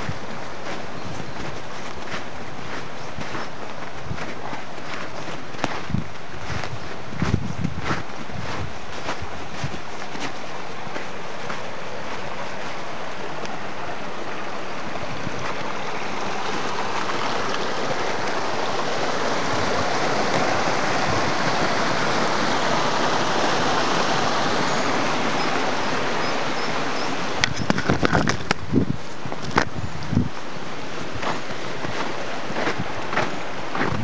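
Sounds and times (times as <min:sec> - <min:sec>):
brook running over stones: 0:00.0 - 0:34.0.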